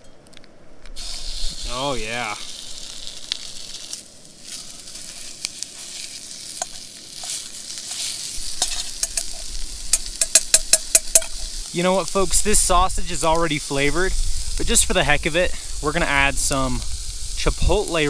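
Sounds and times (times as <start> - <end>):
sausage sizzling in a frying pan: 1.0 - 18.0.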